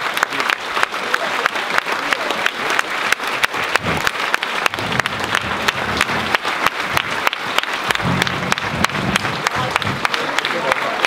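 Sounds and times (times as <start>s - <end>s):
audience applauding: 0.0s - 11.0s
sharp nearby claps: 0.0s - 11.0s.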